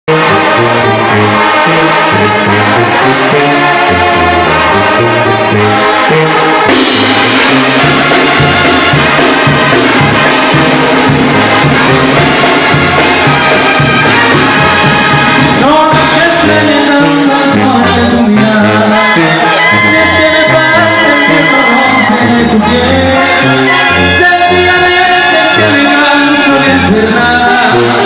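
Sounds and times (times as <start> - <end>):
brass band playing loudly: 0.0 - 28.0.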